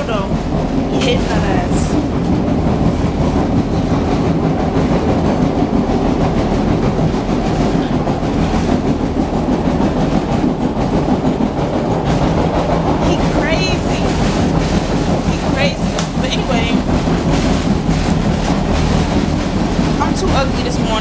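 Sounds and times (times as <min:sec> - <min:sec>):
clickety-clack of wheels: 0:00.0 - 0:21.0
train wheels rumbling on rails: 0:00.0 - 0:21.0.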